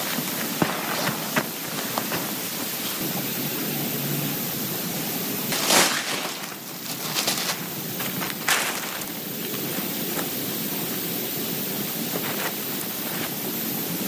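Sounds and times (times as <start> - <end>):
heavy rain on a tent: 0.0 - 14.0.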